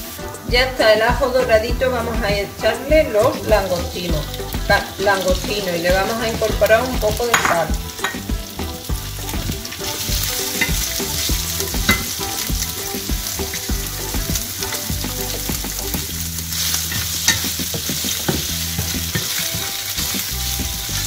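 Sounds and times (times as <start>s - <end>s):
prawns sizzling in oil: 0.0s - 21.0s.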